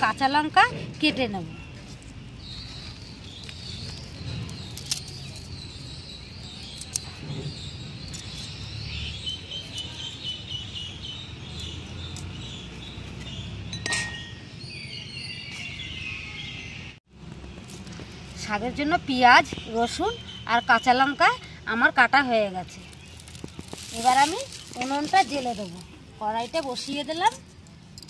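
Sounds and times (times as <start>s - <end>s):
small birds chirping: 1.3s - 28.0s.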